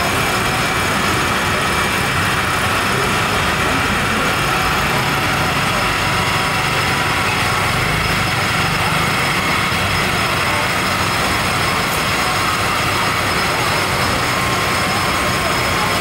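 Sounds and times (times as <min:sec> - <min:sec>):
fire truck engine droning: 0:00.0 - 0:16.0.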